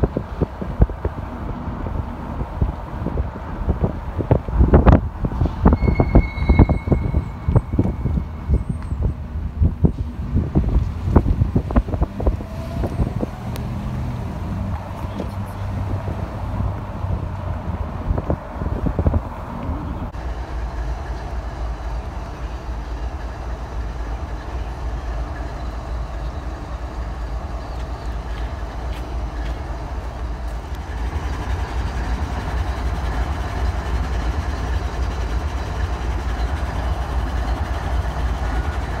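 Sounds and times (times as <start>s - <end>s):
locomotive engine rumble: 0.0s - 39.0s.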